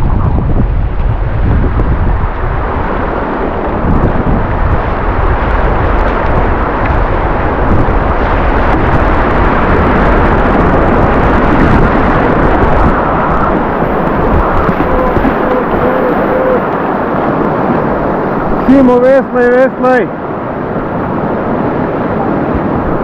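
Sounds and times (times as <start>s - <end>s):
river water rushing through rapids: 0.9s - 23.0s.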